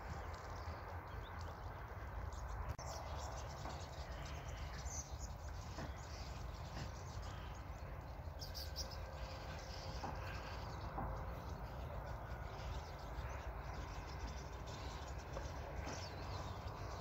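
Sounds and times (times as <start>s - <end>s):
high chirps of small birds: 0.0s - 17.0s
wind rumble on microphone: 0.0s - 17.0s.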